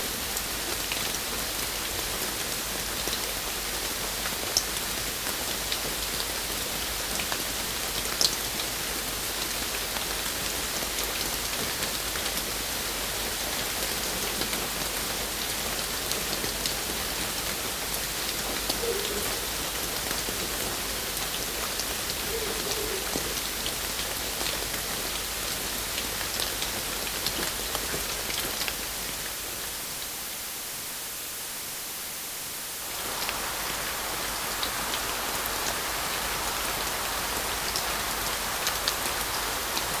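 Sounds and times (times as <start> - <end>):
rain falling: 0.0 - 31.0, 32.1 - 40.0
raindrops ticking on a surface: 0.2 - 29.3, 32.8 - 40.0.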